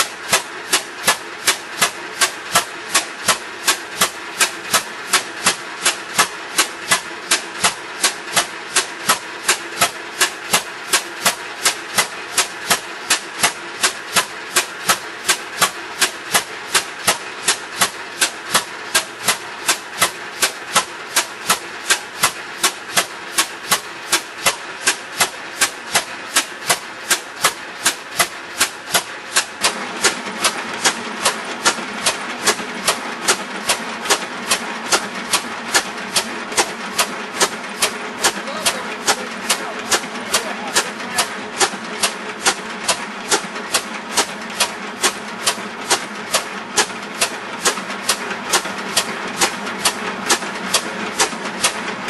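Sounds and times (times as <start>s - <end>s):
piston engine clacking: 0.0s - 52.0s.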